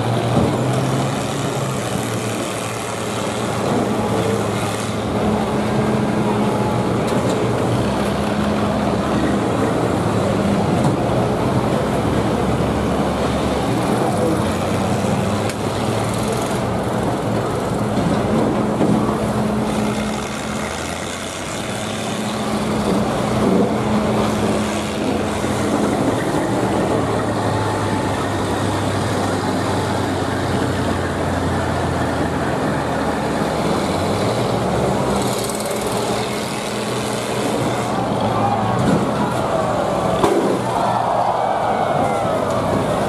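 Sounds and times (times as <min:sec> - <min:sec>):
combine harvester engines droning: 0:00.0 - 0:43.0.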